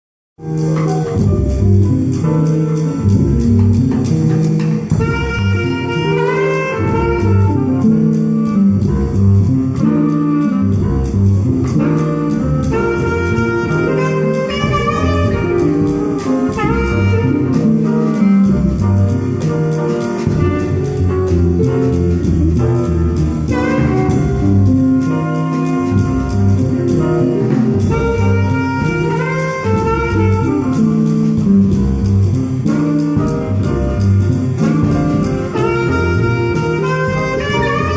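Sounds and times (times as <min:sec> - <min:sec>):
bass line: 0:00.4 - 0:37.9
drum kit with cymbal: 0:00.4 - 0:37.9
horns playing jazz melody: 0:00.4 - 0:37.9.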